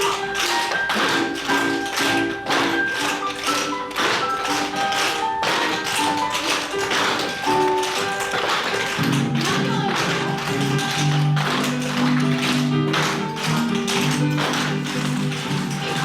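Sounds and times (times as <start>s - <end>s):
flamenco style music: 0.0s - 16.0s.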